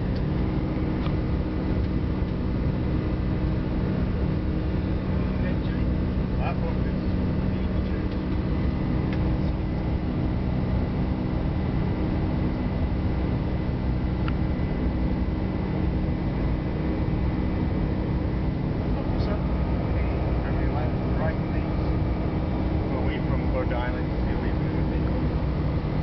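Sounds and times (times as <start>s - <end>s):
jet engines droning: 0.0s - 26.0s
steady low tone: 0.0s - 26.0s.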